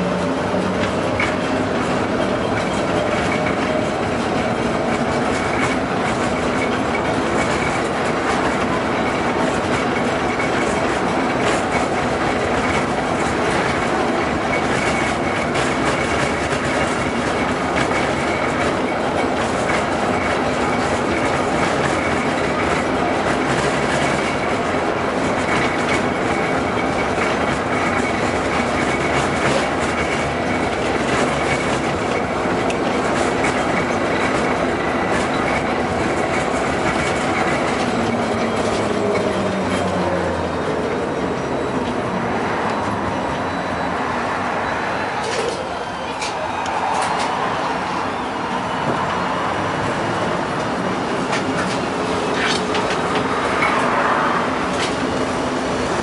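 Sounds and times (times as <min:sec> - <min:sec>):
tram wheels clicking over rail joints: 0:00.0 - 0:56.0.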